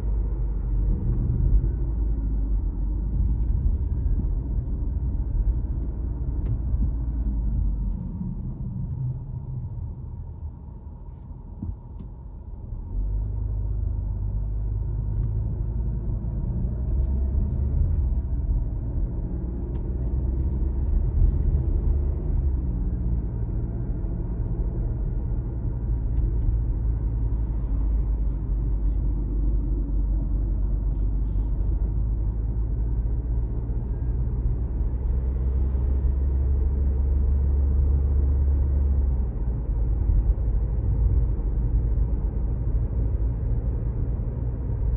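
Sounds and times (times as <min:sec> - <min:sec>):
car driving on a road: 0:00.0 - 0:44.9.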